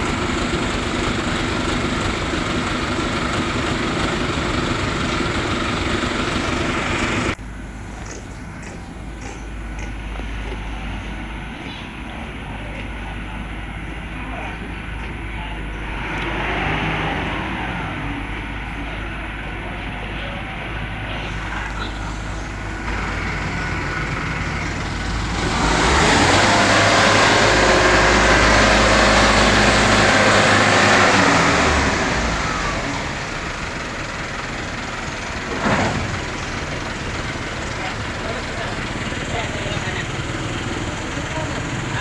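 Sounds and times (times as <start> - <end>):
machinery engine running: 0.0 - 42.0.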